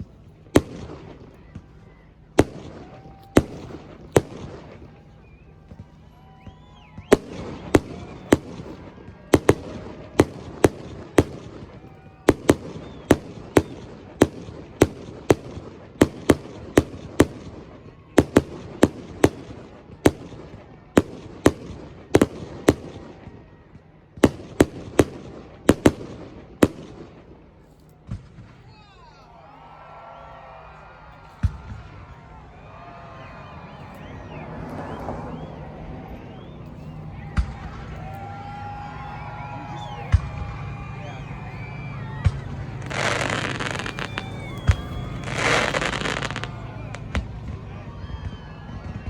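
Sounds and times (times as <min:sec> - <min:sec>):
fireworks booming: 0:00.0 - 0:28.8, 0:31.4 - 0:49.0.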